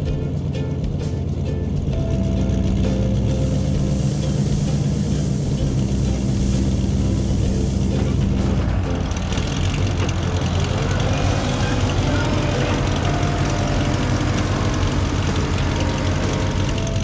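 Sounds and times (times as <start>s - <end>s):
large vehicle engine rumbling: 0.0s - 17.0s.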